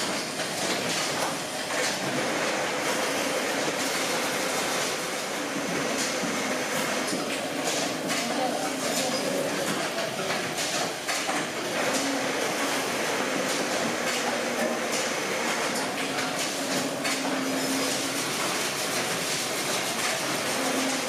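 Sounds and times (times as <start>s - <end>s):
machinery clattering: 3.5s - 21.0s.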